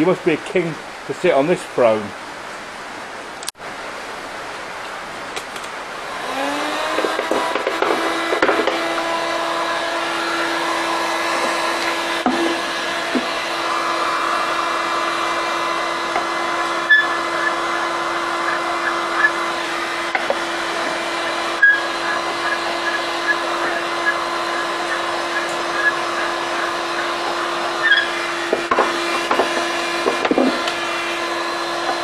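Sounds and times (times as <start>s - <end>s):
heat gun fan humming: 4.9s - 32.0s.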